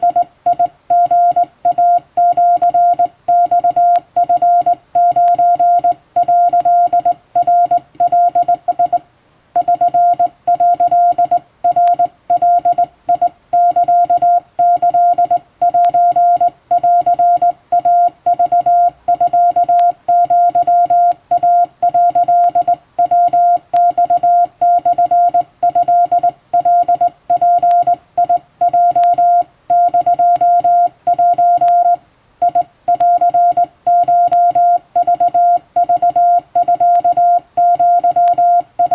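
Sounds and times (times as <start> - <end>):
morse code beeps: 0.0 - 9.0, 9.6 - 38.9.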